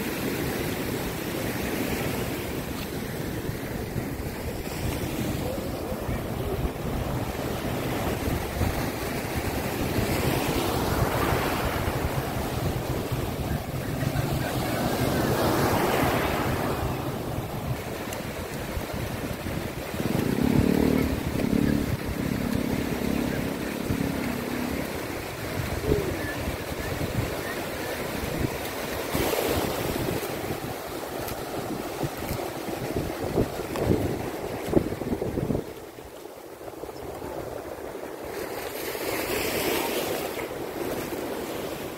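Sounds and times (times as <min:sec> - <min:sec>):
small waves breaking on shore: 0:00.0 - 0:41.9
wind buffeting microphone: 0:01.9 - 0:38.7.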